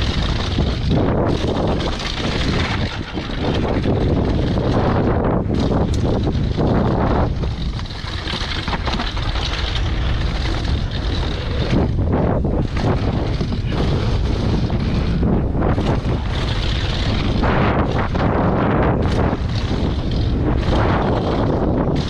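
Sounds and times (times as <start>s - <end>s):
bike clattering and rattling: 0.0s - 22.0s
tyres rumbling on dirt: 0.0s - 22.0s
wind buffeting microphone: 0.0s - 22.0s.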